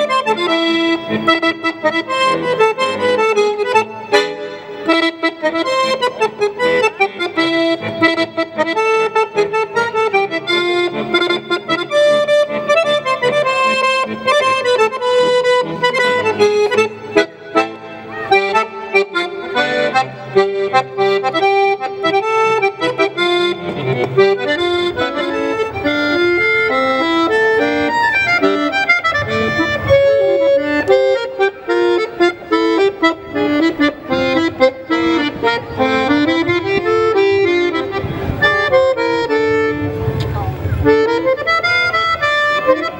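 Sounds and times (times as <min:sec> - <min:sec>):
button accordion playing fast tune: 0:00.0 - 0:42.9.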